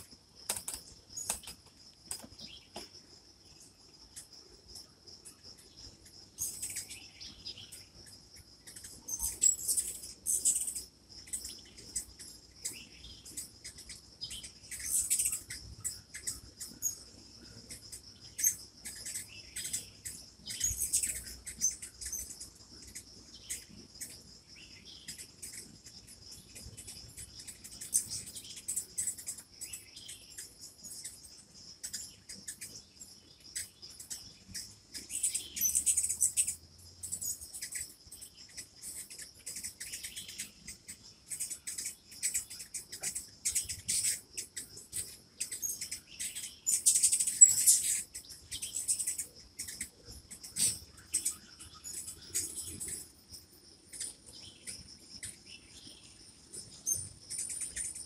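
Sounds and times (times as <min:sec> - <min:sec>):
high insect trill: 0:00.0 - 0:58.0
hummingbirds squeaky chips: 0:05.3 - 0:24.3, 0:25.0 - 0:58.0.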